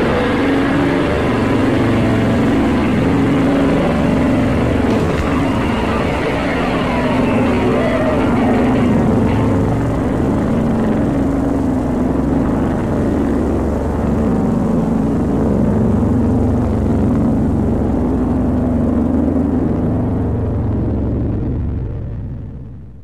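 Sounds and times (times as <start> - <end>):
wavering hum: 0.0 - 20.0
low rumbling drone: 0.0 - 23.0.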